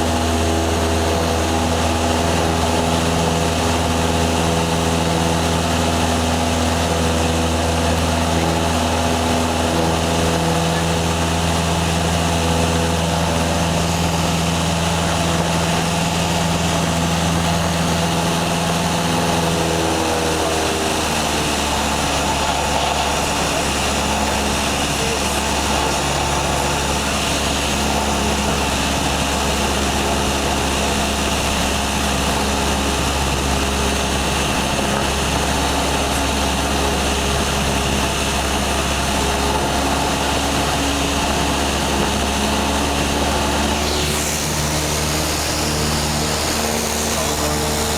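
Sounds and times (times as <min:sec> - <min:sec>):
propeller airplane engine in cabin: 0:00.0 - 0:47.9.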